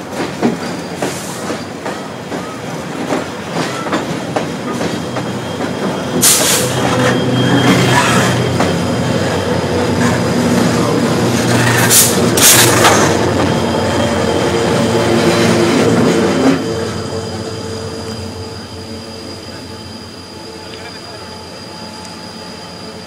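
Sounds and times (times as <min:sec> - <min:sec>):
diesel locomotive engine droning: 0:00.0 - 0:23.0
train wheels rumbling over rails: 0:00.0 - 0:23.0.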